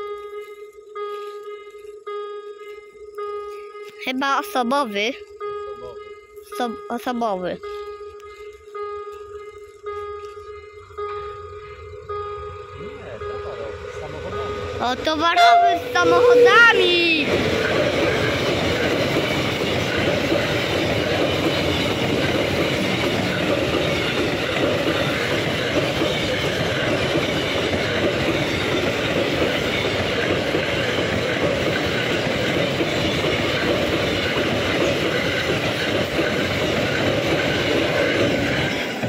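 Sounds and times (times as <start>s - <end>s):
freight train wheels on rails: 0.0s - 39.0s.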